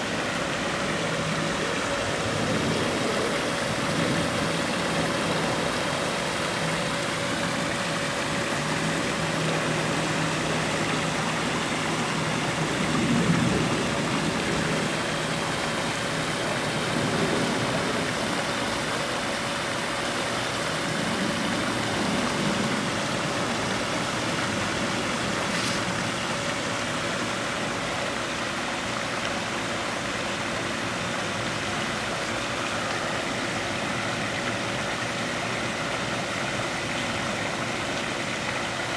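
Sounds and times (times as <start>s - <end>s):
steady hum: 0.0s - 38.9s
waterfall splashing into pool: 0.0s - 38.9s.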